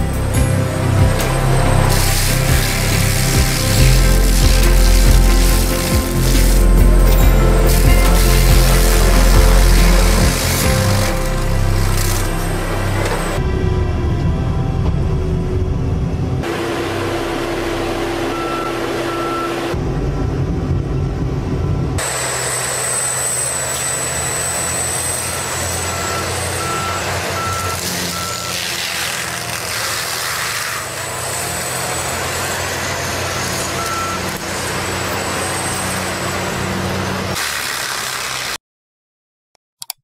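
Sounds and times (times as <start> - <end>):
heavy machinery engine and hydraulics: 0.0 - 38.6.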